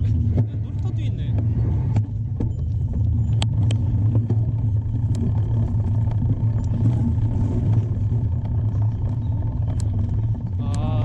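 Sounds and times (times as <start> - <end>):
bike rattling: 0.0 - 11.0.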